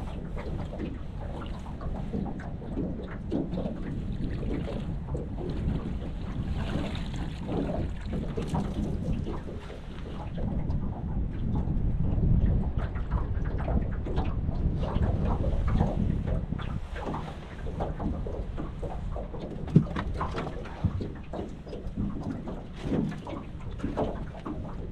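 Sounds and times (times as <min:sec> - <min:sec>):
water splashing around boat: 0:00.0 - 0:24.9
wind rumbling on microphone: 0:00.0 - 0:24.9.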